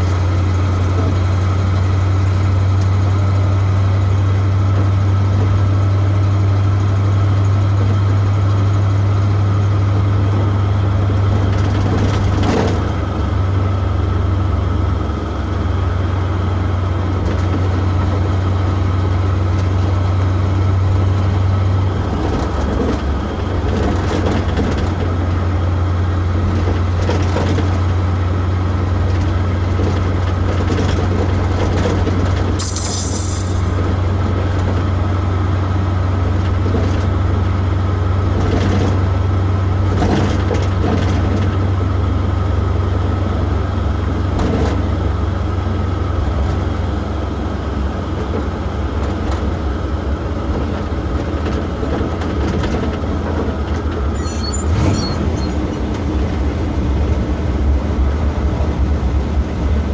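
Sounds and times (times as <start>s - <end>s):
truck engine and road drone: 0.0s - 59.9s.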